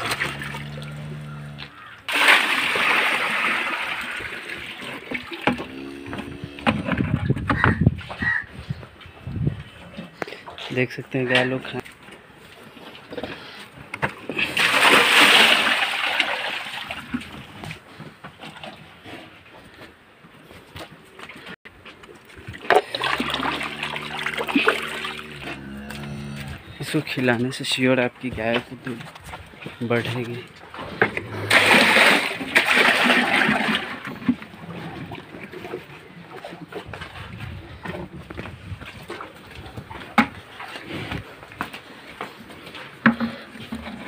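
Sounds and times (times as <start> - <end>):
cows slurping wet feed: 0.0 - 7.4, 11.6 - 27.3, 28.4 - 44.0.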